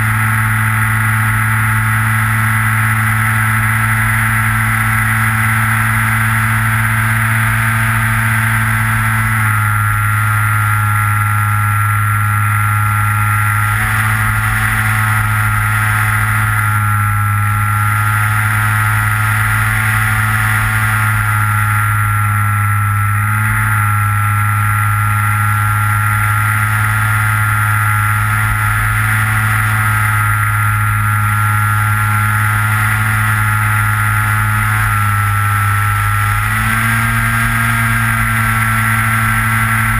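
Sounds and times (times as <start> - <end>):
propeller motor whine: 0.0 - 39.9.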